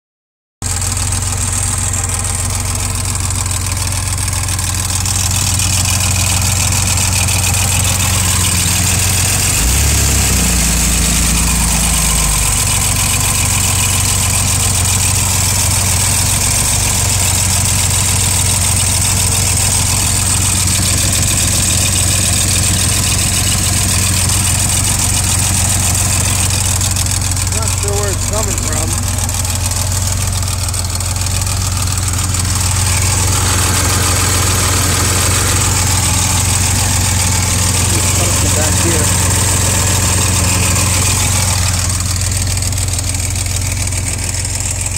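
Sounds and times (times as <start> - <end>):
engine idling: 0.6 - 44.9.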